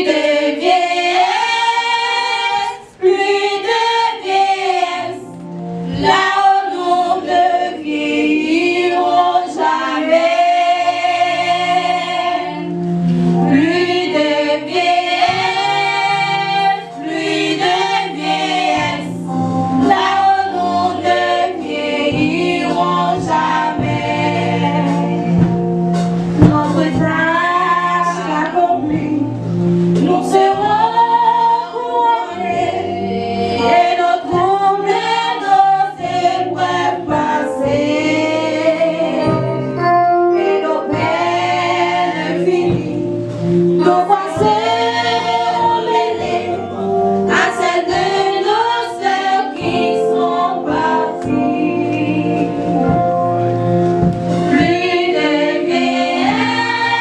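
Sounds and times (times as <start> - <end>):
group singing a gospel hymn: 0.0 - 57.0.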